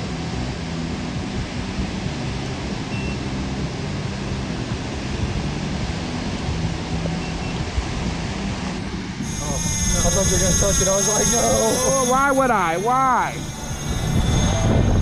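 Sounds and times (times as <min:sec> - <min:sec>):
surf: 0:00.0 - 0:15.0
wind noise: 0:00.0 - 0:15.0.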